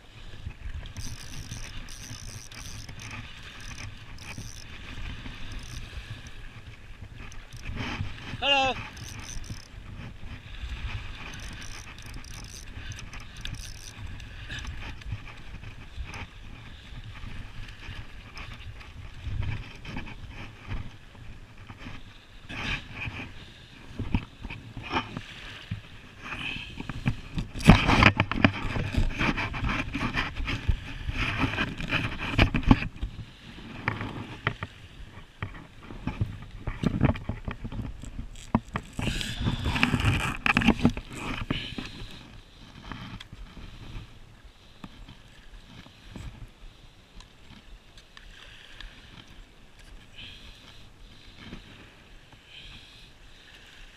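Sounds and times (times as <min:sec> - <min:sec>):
wind rumble on microphone: 0:00.0 - 0:47.8.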